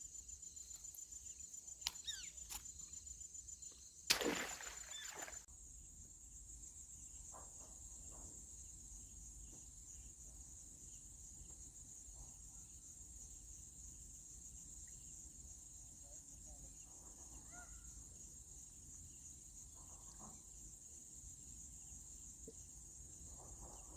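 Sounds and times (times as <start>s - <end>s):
insect chorus drone: 0.0s - 23.9s.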